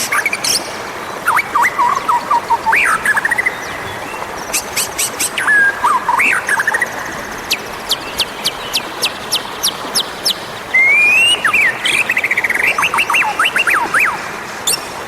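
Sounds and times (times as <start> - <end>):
bird singing chirps and whistles: 1.3 - 14.9.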